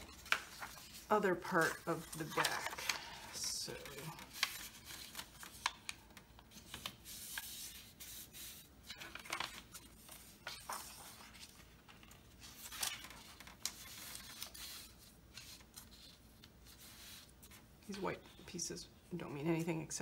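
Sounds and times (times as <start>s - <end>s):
paper rustling and crinkling: 0.0s - 18.0s.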